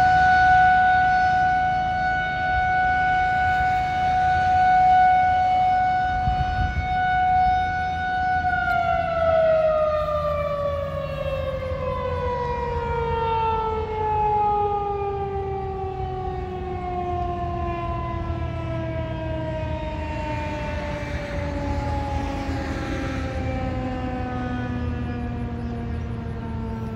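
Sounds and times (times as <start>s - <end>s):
warning siren wailing: 0.0s - 26.9s.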